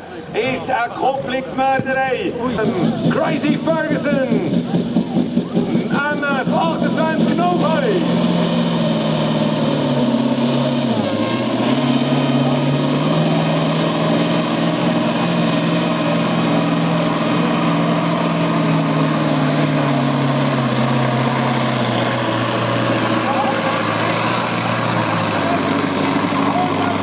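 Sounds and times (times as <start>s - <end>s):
diesel tractor engine at high revs: 0.0s - 27.0s.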